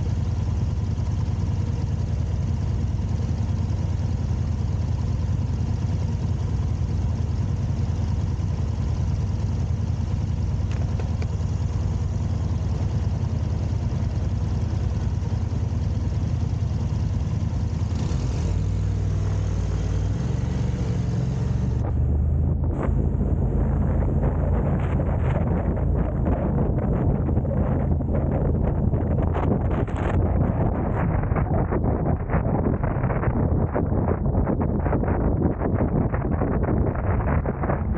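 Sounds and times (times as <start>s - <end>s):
car engine rumble: 0.0s - 37.9s
road noise: 0.0s - 37.9s.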